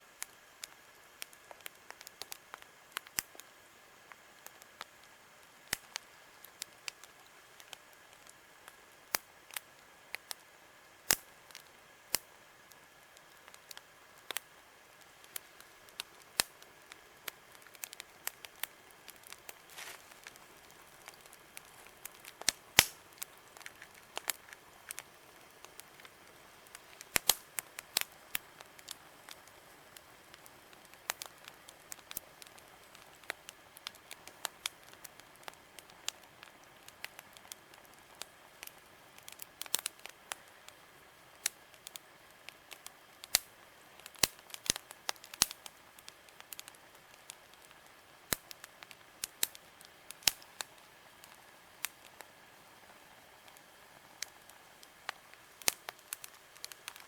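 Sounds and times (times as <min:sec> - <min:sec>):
campfire crackling and popping: 0:00.0 - 0:57.0
faint steady hiss: 0:00.0 - 0:57.0.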